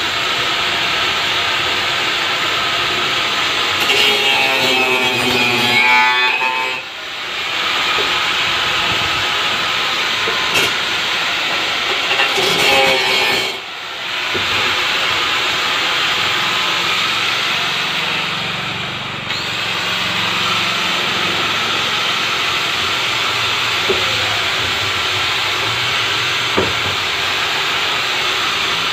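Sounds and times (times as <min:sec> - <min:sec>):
angle grinder cutting plastic: 0:01.2 - 0:28.9.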